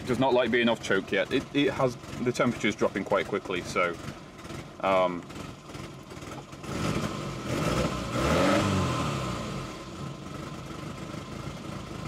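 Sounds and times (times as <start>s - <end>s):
car engine idling unevenly: 0.0s - 12.0s.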